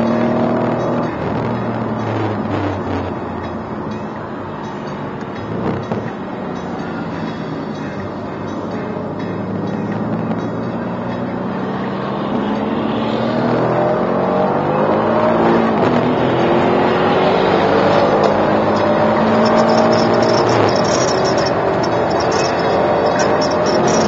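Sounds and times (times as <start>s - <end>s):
car engine accelerating: 0.0s - 24.0s
wind and road noise: 0.0s - 24.0s.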